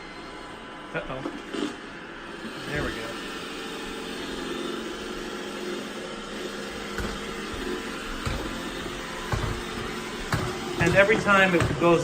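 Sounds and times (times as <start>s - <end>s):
robot vacuum humming: 0.0s - 12.0s.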